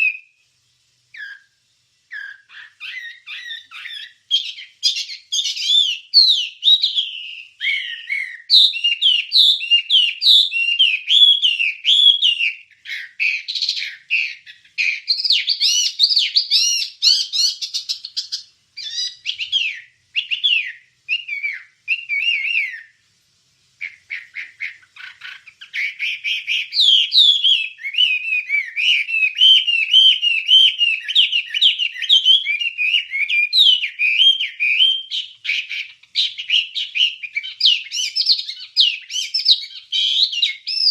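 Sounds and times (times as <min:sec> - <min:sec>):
songbird chirping and whistling: 0:00.0 - 0:23.0, 0:23.8 - 0:40.9.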